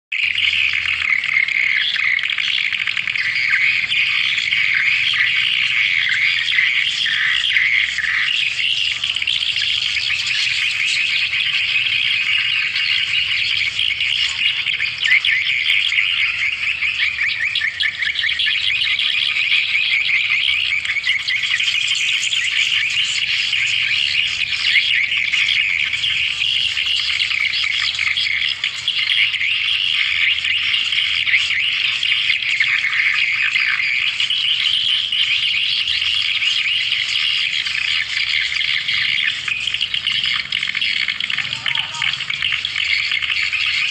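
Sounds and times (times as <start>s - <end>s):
rapid high bird chirps: 0.1s - 43.9s.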